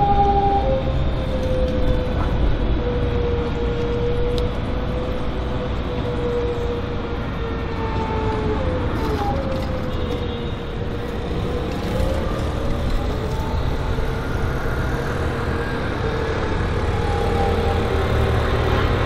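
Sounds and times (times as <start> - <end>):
street traffic: 0.0 - 19.0
tram rumble: 0.0 - 19.0
tram wheels squealing: 0.0 - 19.0.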